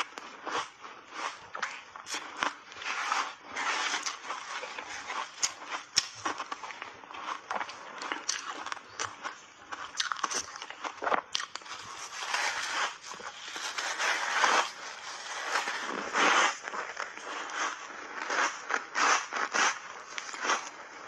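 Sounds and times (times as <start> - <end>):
ice crunching while chewed: 0.0 - 21.0.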